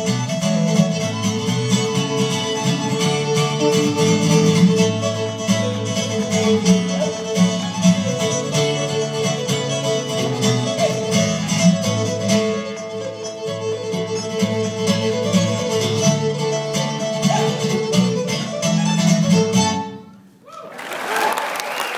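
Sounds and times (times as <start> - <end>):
strummed acoustic guitar: 0.0 - 20.1
fiddle melody: 0.0 - 20.3.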